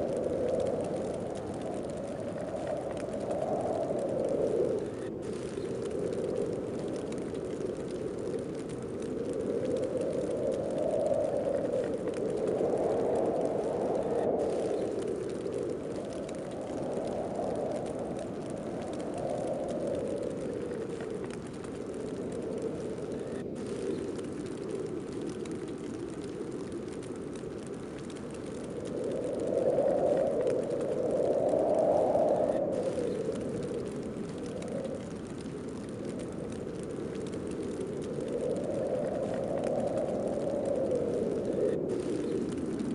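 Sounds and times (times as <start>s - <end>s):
howling wind gusts: 0.0s - 42.9s.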